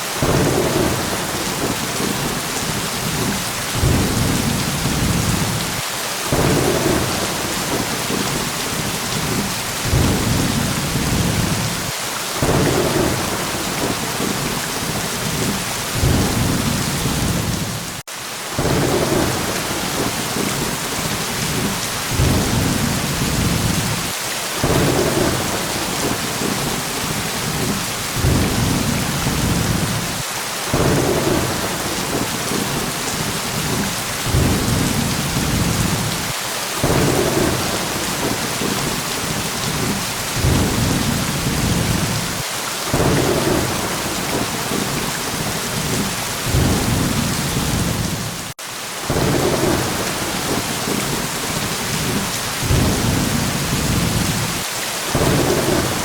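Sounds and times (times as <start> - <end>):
heavy rain hissing: 0.0 - 56.0
rolling thunder: 0.2 - 18.0, 18.6 - 48.3, 51.9 - 54.6.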